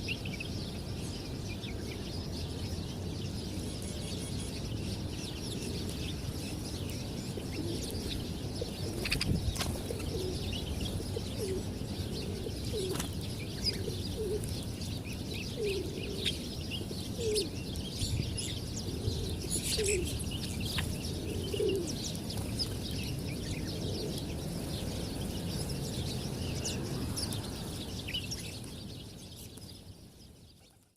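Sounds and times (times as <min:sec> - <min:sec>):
small birds chirping: 0:00.0 - 0:30.9
pigeons cooing: 0:03.6 - 0:28.6.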